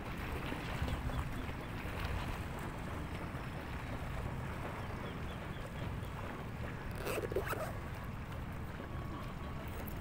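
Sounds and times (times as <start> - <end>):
bay water washing: 0.0 - 10.0
wind: 0.0 - 10.0.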